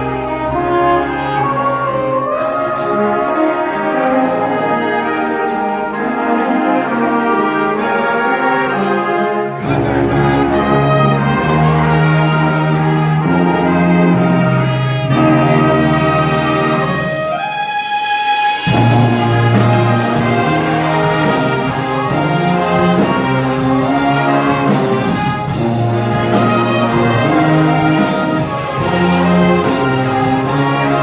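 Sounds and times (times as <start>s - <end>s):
low brass line: 0.0s - 31.0s
wind band playing: 0.0s - 31.0s.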